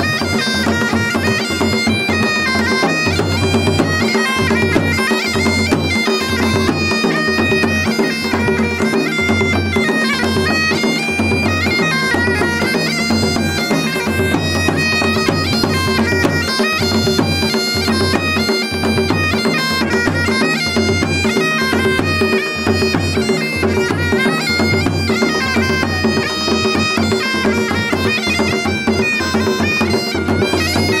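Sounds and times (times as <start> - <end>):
bagpipe melody over drones: 0.0 - 31.0.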